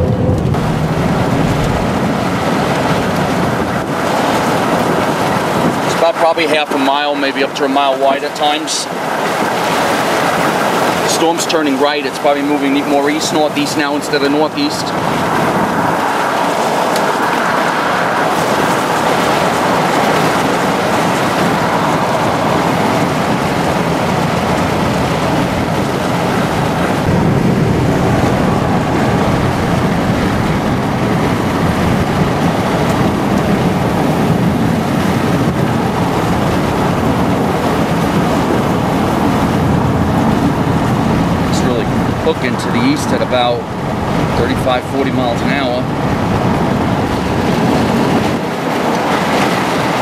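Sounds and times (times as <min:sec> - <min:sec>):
car road noise from inside: 0:00.0 - 0:05.7, 0:12.7 - 0:49.8
wind rushing: 0:00.0 - 0:05.9, 0:14.2 - 0:50.0.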